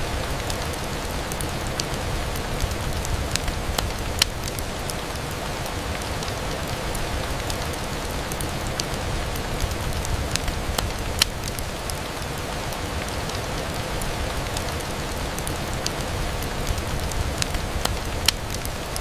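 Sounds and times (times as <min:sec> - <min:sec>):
steady rain: 0:00.0 - 0:19.0
sharp ticks and pops: 0:00.4 - 0:06.3, 0:07.2 - 0:13.4, 0:14.5 - 0:19.0.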